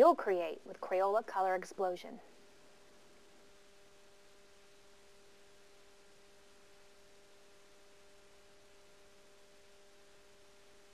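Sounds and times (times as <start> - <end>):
faint steady hum: 0.0 - 10.9
low hiss: 0.0 - 10.9.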